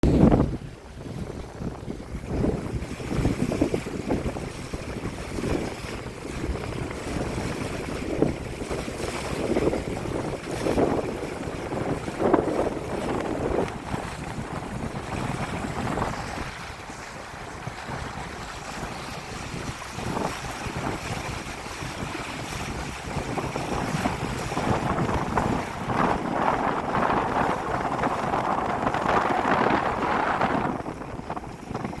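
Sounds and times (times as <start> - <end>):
water rushing past hull: 0.0 - 32.0
wind buffeting microphone: 0.0 - 32.0.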